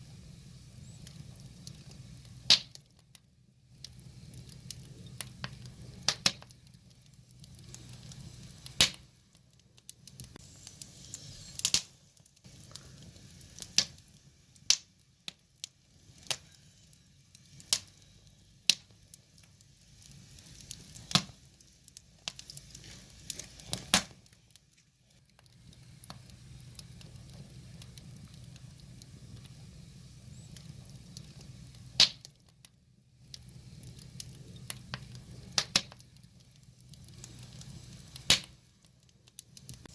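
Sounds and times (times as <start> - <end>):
low rush of flame: 0.0 - 39.9
wood fire crackling and popping: 0.0 - 39.9.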